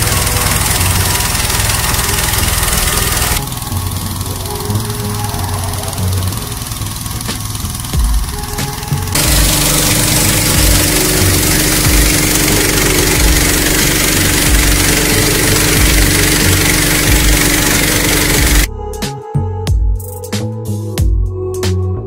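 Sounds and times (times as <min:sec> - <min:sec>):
engine inflator fan running: 0:00.0 - 0:18.7.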